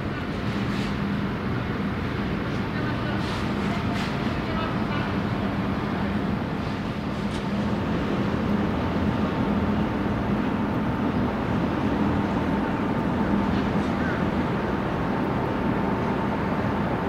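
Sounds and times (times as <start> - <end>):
ship machinery rumble: 0.0 - 17.0.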